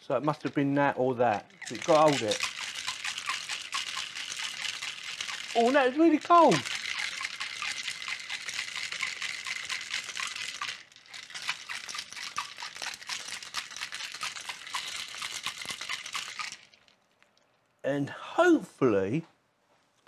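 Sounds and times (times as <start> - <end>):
ice rattling in cocktail shaker: 0.2 - 17.3.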